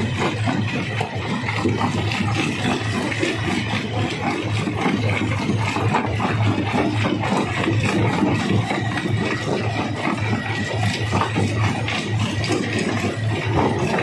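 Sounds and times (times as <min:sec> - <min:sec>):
stone crusher machine hum: 0:00.0 - 0:14.0.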